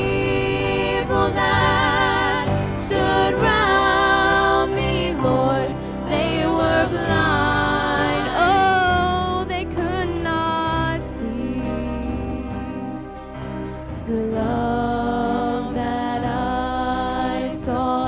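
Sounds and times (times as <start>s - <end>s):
instrumental accompaniment: 0.0s - 18.0s
vocal group singing in harmony: 0.0s - 18.0s.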